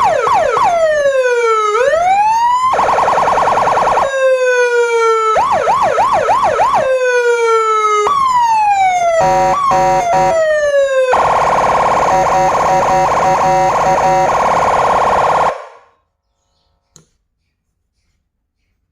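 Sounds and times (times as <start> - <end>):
electronic siren switching tones: 0.0 - 15.9.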